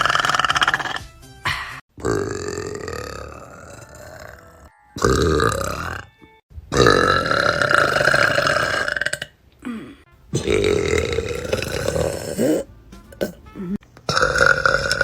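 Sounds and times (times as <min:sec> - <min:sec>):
young women burping loudly: 0:02.0 - 0:06.1, 0:06.8 - 0:15.0.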